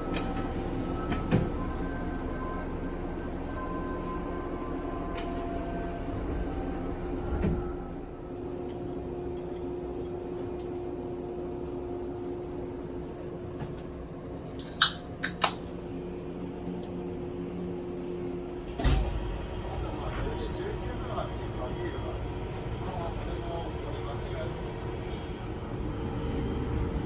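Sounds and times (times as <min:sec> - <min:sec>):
train equipment hum: 0:00.0 - 0:27.0.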